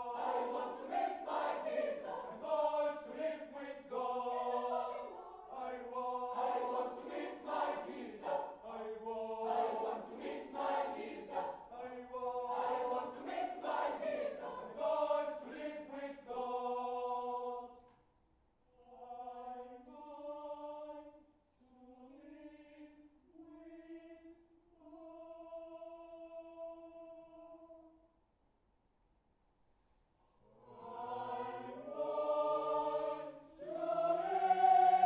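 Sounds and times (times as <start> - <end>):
mixed choir singing a cappella: 0.0 - 17.9, 18.7 - 28.0, 30.4 - 35.0.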